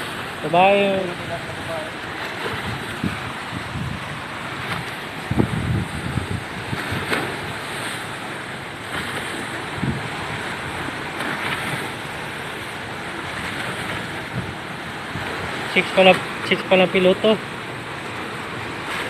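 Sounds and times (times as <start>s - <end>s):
wind buffeting microphone: 0.0s - 16.4s
churned water rushing: 0.0s - 19.0s.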